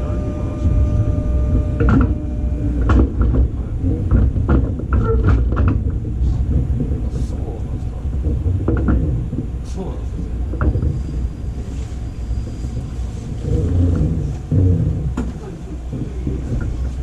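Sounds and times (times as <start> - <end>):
steady whine: 0.0 - 17.0
train car knocks and creaks: 0.0 - 17.0
train rumbling: 0.0 - 17.0.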